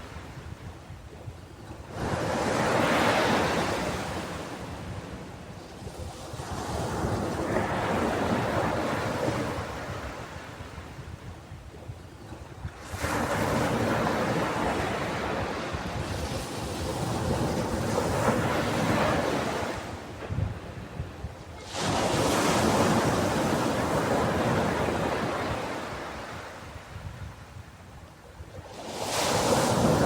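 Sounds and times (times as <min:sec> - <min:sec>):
ocean waves breaking on beach: 0:00.0 - 0:30.0.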